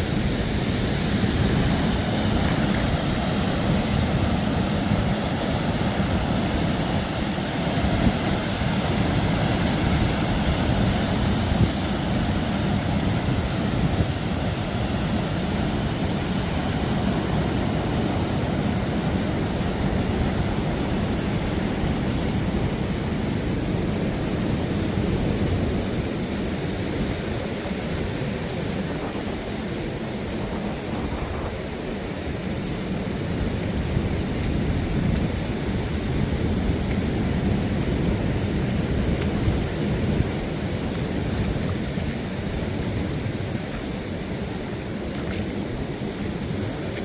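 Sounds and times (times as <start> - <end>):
ocean surf breaking: 0.0 - 47.0.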